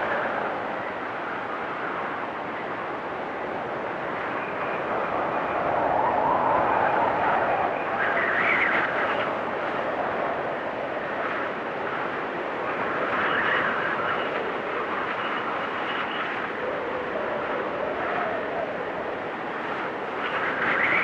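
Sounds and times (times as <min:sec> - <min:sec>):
storm wind whistling: 0:00.0 - 0:21.0.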